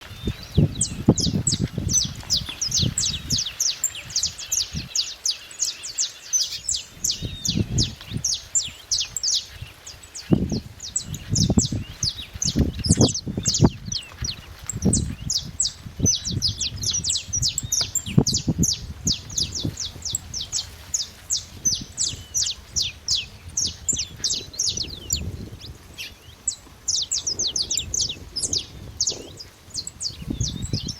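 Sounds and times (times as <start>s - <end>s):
finch chirping: 0.0s - 30.9s.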